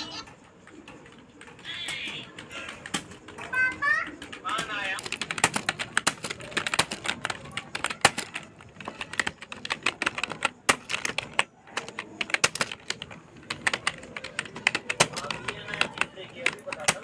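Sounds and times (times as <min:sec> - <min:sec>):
fast keyboard typing: 0:00.0 - 0:17.0.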